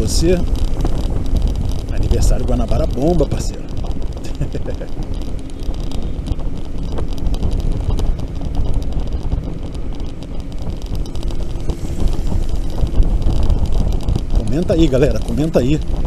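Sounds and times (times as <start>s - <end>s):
passing traffic: 0.0s - 16.0s
wind rumble on microphone: 0.0s - 16.0s.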